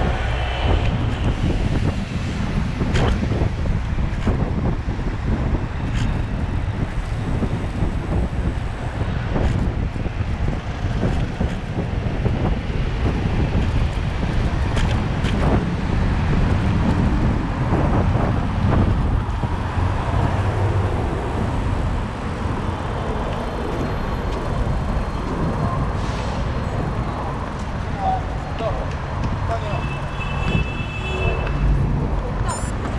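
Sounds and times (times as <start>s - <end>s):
road traffic: 0.0s - 32.9s
wind rumble on microphone: 0.0s - 32.9s.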